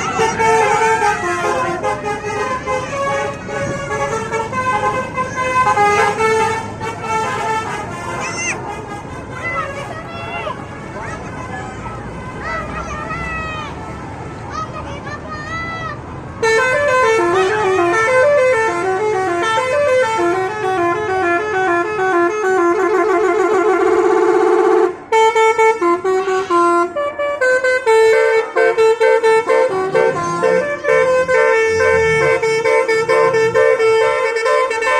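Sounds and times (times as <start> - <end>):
bus horn playing a melody: 0.0 - 10.1, 16.4 - 34.9.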